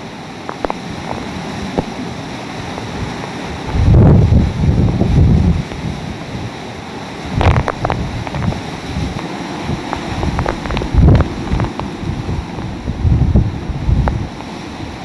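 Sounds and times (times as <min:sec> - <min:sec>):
heavy rain hissing: 0:00.0 - 0:15.0
strong wind buffeting microphone: 0:00.0 - 0:15.0.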